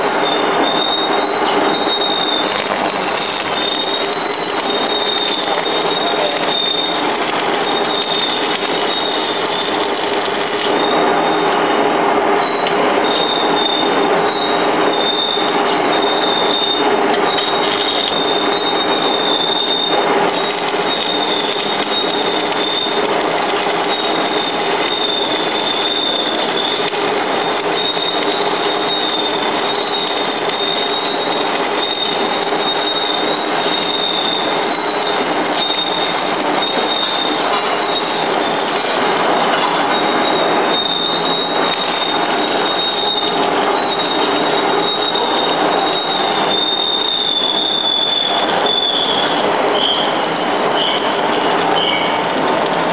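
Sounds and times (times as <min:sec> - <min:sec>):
high welding whine: 0:00.0 - 0:52.9.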